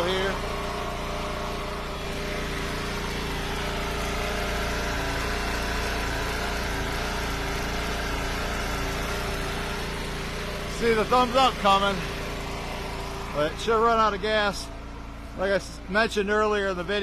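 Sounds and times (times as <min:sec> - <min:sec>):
gas engine running: 0:00.0 - 0:17.0.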